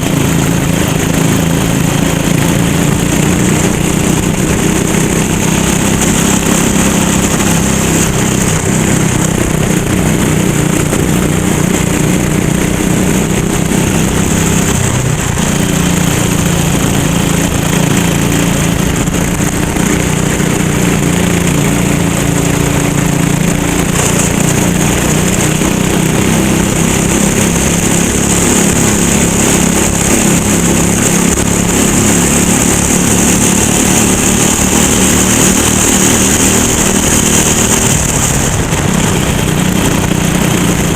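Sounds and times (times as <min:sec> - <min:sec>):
kart engine running hard: 0:00.0 - 0:40.9.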